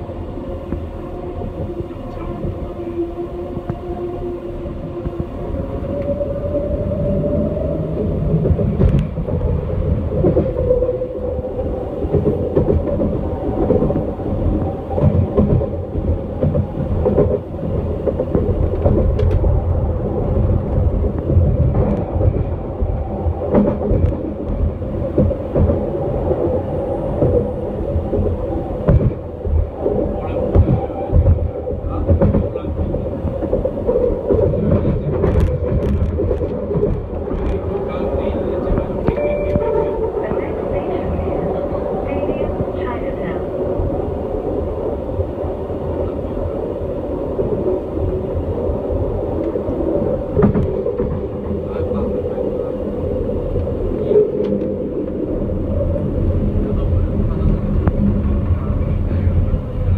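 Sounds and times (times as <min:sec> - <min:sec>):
rumble of wheels on rail: 0:00.0 - 0:59.9.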